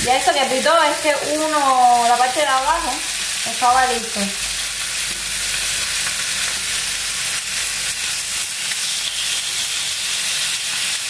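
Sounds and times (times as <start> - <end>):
steaks sizzling on a grill: 0.0 - 11.0.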